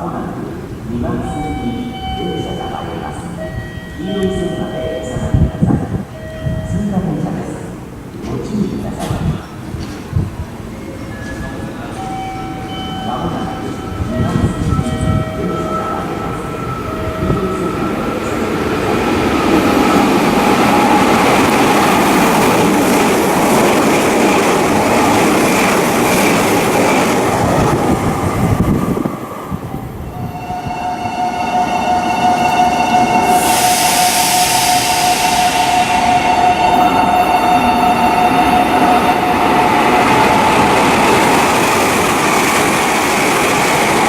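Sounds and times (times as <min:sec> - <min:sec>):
train passing at speed: 0:00.0 - 0:44.0.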